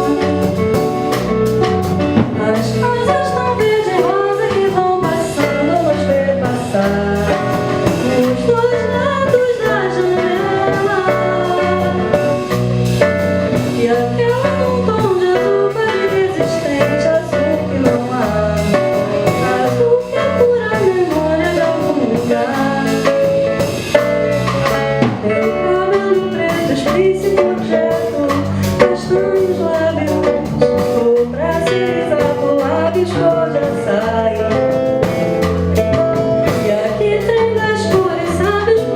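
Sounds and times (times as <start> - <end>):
acoustic guitar: 0.0 - 38.9
bass: 0.0 - 38.9
drum kit: 0.0 - 38.9
woman singing: 0.0 - 38.9.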